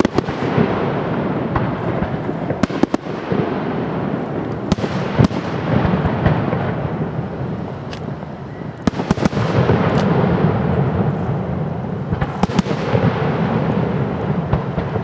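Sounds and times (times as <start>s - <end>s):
firework shells bursting: 0.0s - 15.0s
low rumble of echoing bursts: 0.0s - 15.0s.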